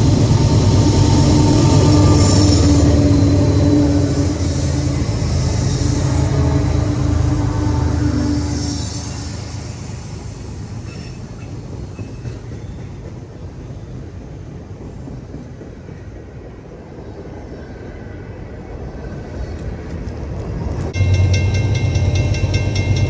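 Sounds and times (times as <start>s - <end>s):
freight train rumble: 0.0s - 23.0s.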